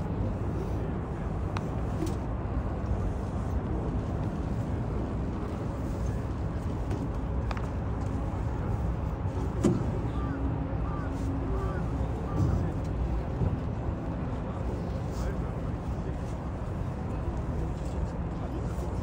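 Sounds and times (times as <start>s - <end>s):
faint distant speech: 0.0s - 19.0s.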